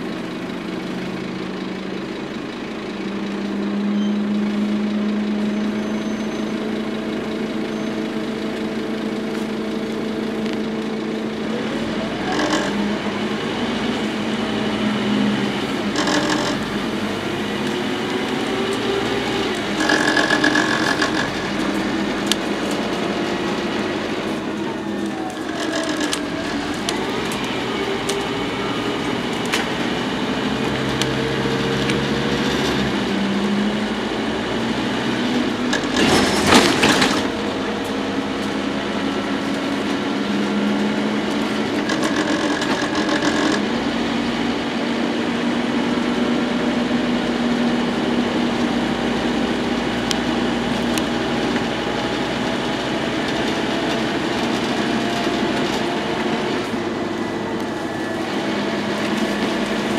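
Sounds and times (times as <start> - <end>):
bus engine accelerating: 0.0 - 59.9.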